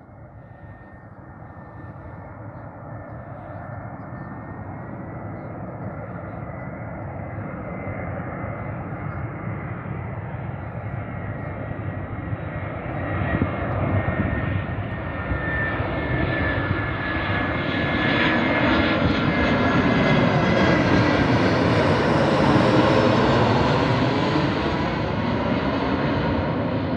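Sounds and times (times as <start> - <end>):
jet airliner engine whine: 0.0 - 26.9.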